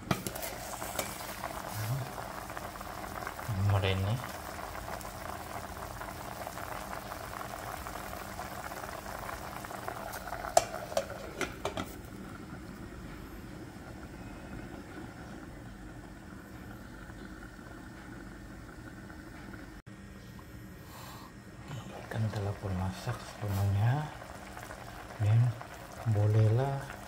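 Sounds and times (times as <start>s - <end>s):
pot boiling and bubbling: 0.0s - 19.9s, 21.7s - 27.0s.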